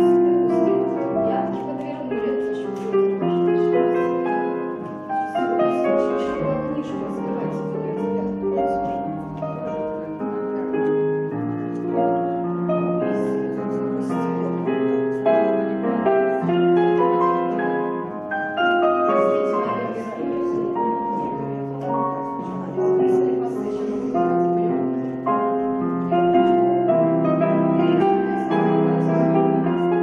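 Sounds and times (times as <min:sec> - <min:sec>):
piano melody over chords: 0:00.0 - 0:30.0.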